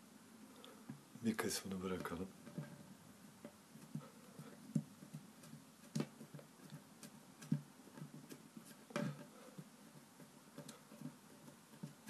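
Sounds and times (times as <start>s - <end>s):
hands patting play dough on wood: 0.8s - 12.0s.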